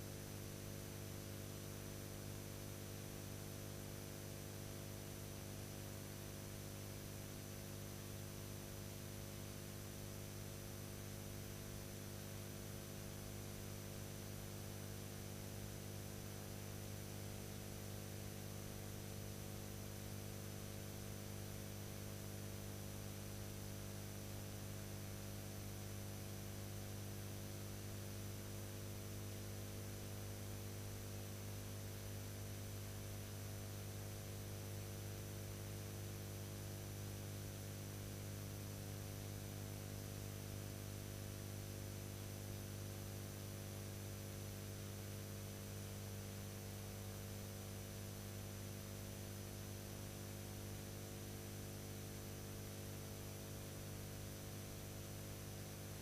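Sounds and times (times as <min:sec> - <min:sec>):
mains hum with whine and hiss: 0:00.0 - 0:56.0.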